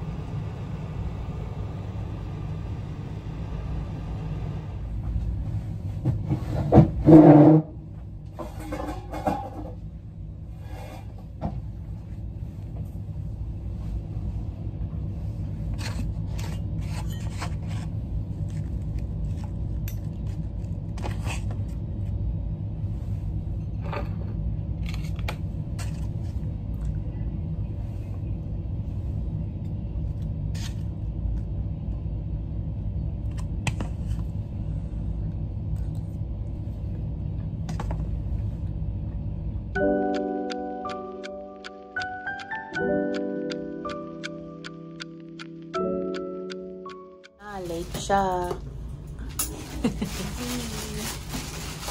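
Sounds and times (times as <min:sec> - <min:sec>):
low room rumble: 0:00.0 - 0:51.9.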